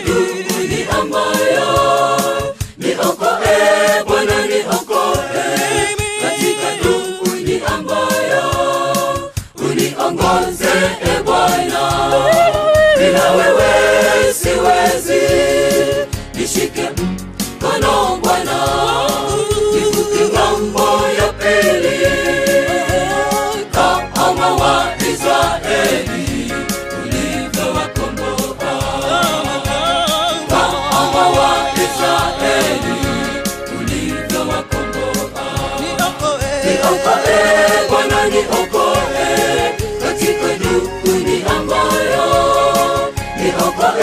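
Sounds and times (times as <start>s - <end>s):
low regular beat: 0.0s - 16.1s, 18.3s - 42.8s
choir singing gospel song: 0.0s - 44.0s.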